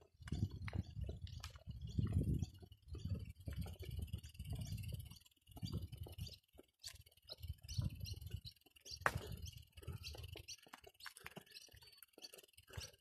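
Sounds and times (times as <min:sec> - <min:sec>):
footsteps on dirt path: 0:00.0 - 0:13.0
small birds chirping: 0:00.0 - 0:13.0.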